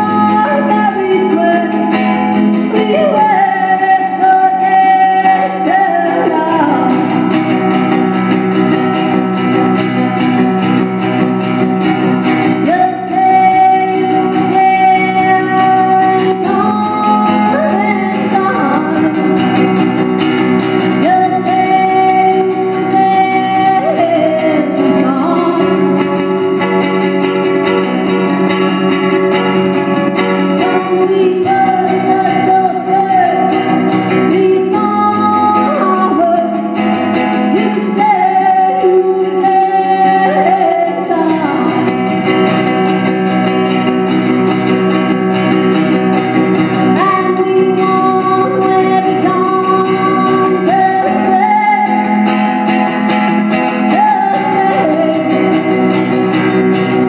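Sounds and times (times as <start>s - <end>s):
acoustic guitar: 0.0s - 57.0s.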